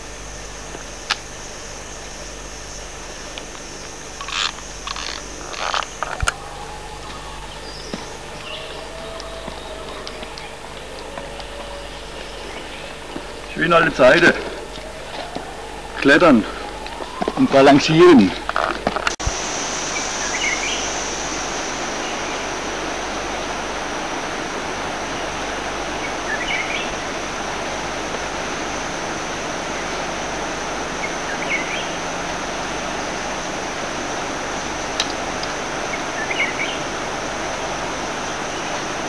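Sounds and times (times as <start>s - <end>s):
high insect drone: 0.0s - 39.0s
steady hiss: 0.0s - 39.0s.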